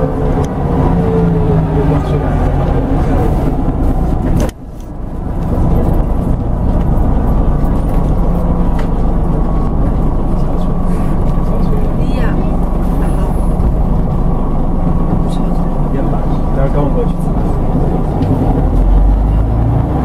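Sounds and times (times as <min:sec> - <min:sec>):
bus engine and road drone: 0:00.0 - 0:20.0.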